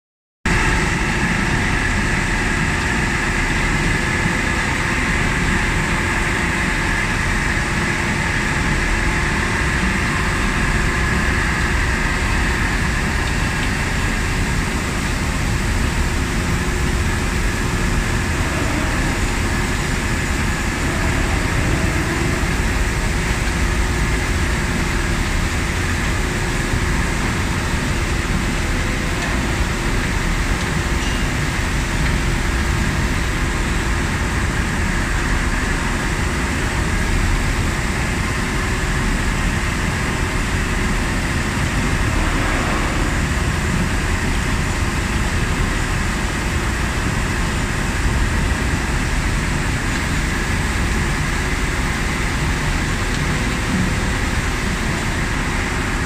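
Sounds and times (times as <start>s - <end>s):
heavy machinery running: 0.5s - 56.0s
high mechanical whine: 0.5s - 56.0s.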